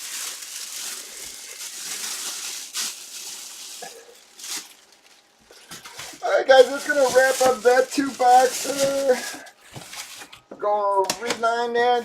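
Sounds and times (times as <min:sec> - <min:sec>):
packaging rustling: 0:00.0 - 0:10.5.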